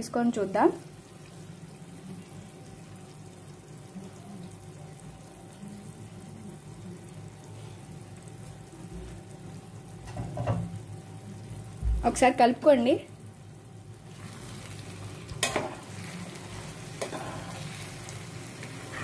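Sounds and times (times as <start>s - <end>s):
curry bubbling in a pan: 0.0s - 19.0s
faint steady hum: 0.0s - 19.0s.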